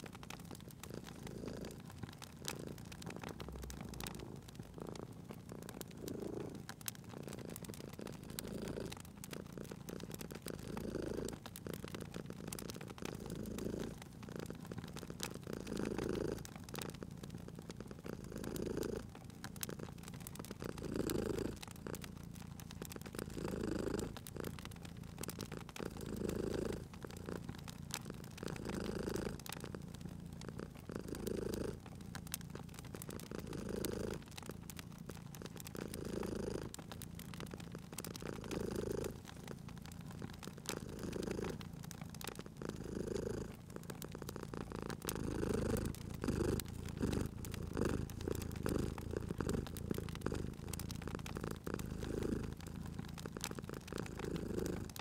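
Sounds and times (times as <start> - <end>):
cat purring: 0.0 - 55.0
crackling wood fire: 0.0 - 55.0.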